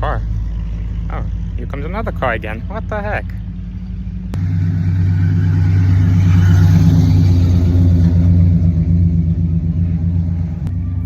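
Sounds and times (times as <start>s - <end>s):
car engine rumbling at low revs: 0.0s - 11.0s.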